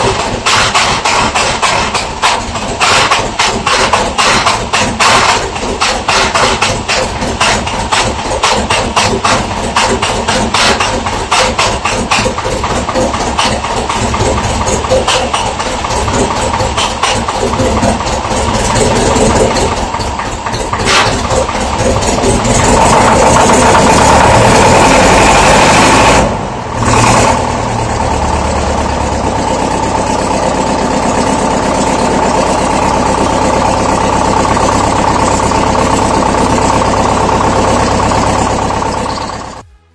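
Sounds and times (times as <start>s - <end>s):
diesel tractor engine clattering: 0.0s - 39.7s.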